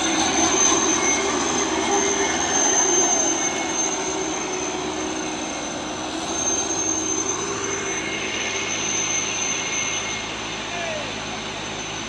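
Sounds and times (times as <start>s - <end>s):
diesel truck engines running: 0.0s - 12.0s
thin high-pitched tone: 0.0s - 12.0s.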